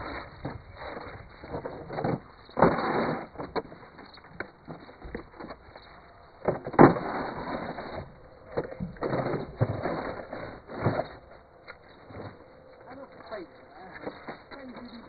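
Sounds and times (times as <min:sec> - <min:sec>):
scraping noise: 0:00.0 - 0:15.0.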